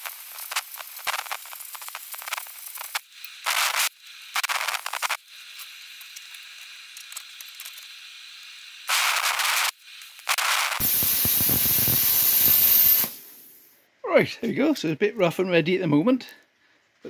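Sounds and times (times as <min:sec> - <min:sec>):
plasma cutter high whine: 0:00.0 - 0:13.7
plasma cutter hissing: 0:00.0 - 0:13.8.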